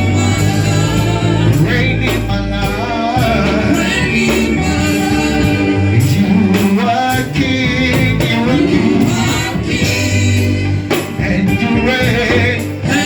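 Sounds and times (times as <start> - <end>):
instrumental accompaniment: 0.0 - 13.0
person singing gospel song: 0.0 - 13.0.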